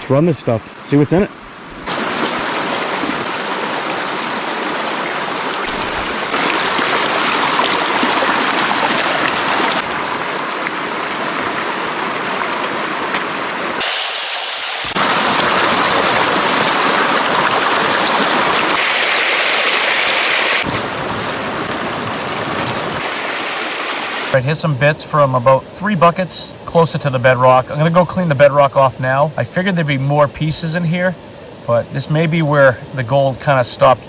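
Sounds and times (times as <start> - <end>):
stream water flowing: 0.0 - 34.0.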